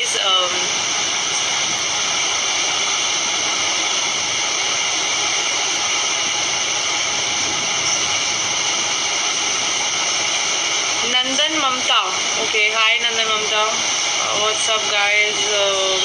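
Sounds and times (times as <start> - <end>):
high-pitched steady hiss: 0.0 - 16.0.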